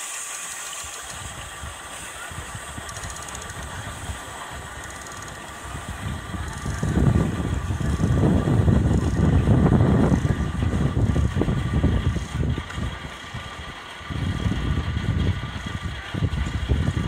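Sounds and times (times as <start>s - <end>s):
steam locomotive rumbling: 0.0s - 17.0s
wheels on rails: 0.0s - 17.0s.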